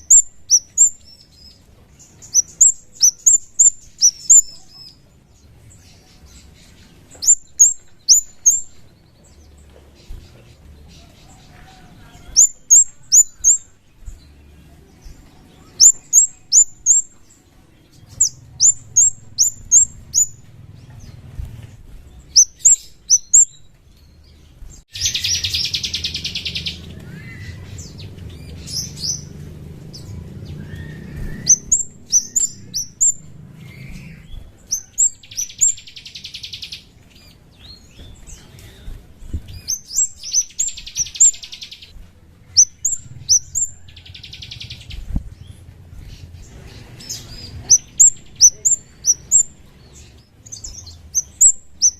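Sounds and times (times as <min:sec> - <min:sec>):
bird buzzy rattling trills: 0:00.0 - 0:51.9
bird chirping high: 0:00.0 - 0:51.9.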